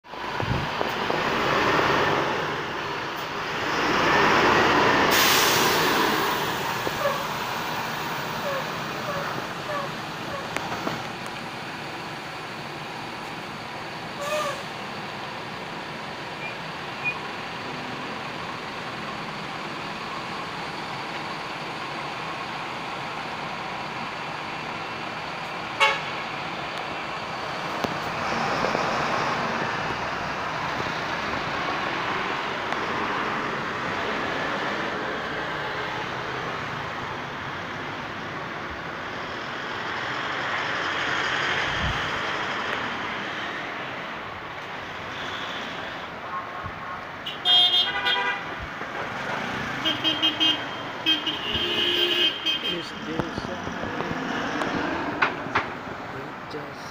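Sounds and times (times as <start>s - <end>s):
traffic rumble of engines and tyres: 0.0s - 56.9s.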